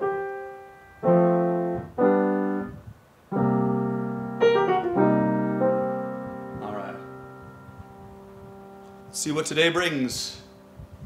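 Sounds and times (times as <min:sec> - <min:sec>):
grand piano chords: 0:00.0 - 0:11.0.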